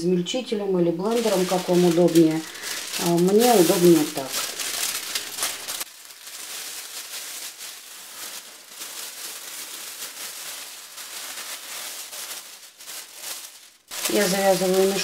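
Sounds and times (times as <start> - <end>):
plastic bag crinkling: 1.0 - 15.0.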